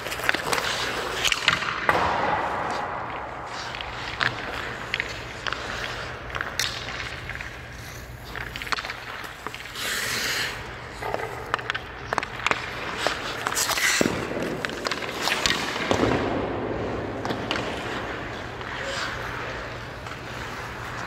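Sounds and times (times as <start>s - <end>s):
skates scraping on ice: 0.0s - 21.0s
sticks and puck tapping ice: 0.0s - 21.0s.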